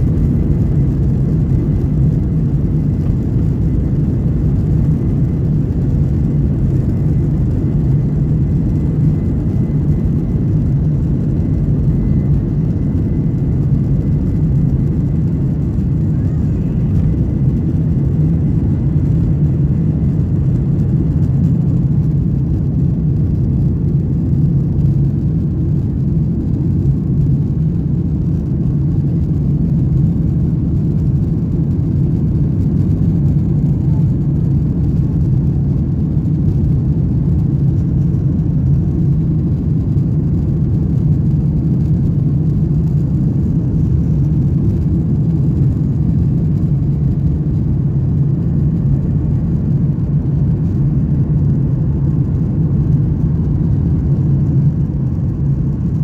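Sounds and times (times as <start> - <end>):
faint high whine: 0.0 - 56.0
jet engines rushing in cabin: 0.0 - 56.0.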